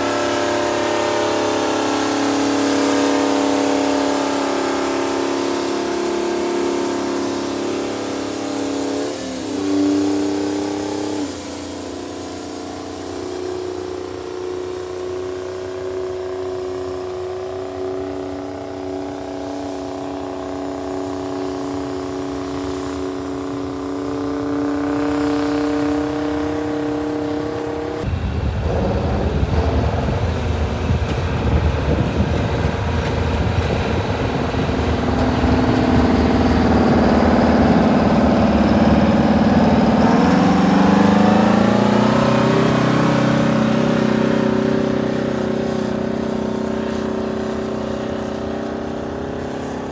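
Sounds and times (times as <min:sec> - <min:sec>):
tractor engine droning: 0:00.0 - 0:49.9.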